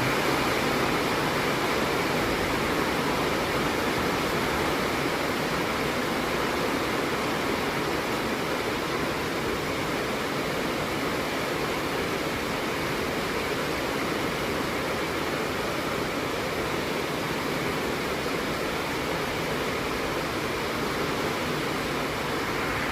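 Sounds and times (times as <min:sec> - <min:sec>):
rain falling steadily: 0:00.0 - 0:22.9.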